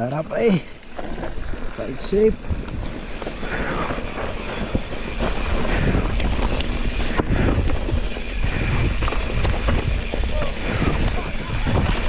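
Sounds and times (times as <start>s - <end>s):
bike frame rattling: 0.0s - 12.0s
bike tyres on dirt: 0.0s - 12.0s
wind buffeting microphone: 0.4s - 12.0s.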